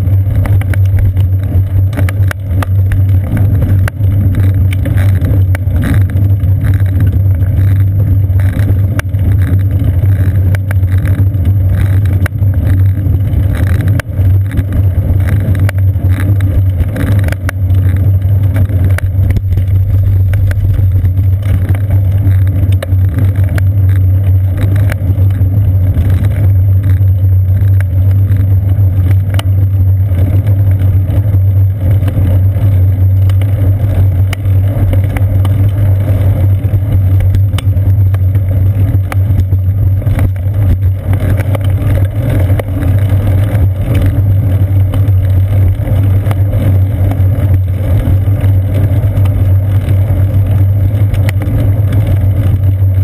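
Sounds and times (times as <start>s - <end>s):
bicycle rolling on pavement: 0.0s - 53.0s.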